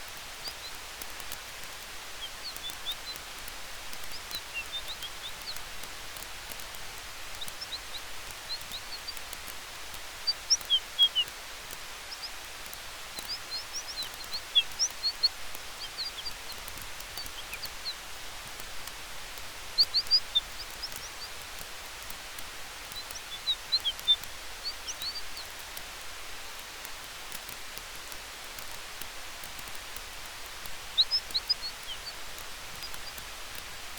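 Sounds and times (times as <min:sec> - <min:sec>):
campfire hiss and crackling: 0:00.0 - 0:33.9.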